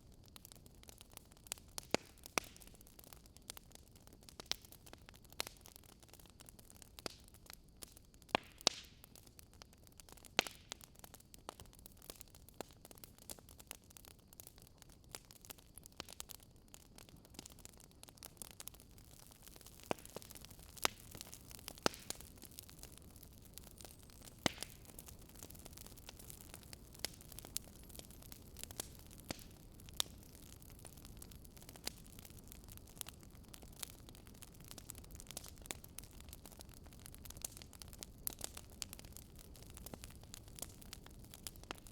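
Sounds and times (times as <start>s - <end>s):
campfire crackling and popping: 0.0s - 41.9s
faint steady hiss: 6.5s - 41.9s.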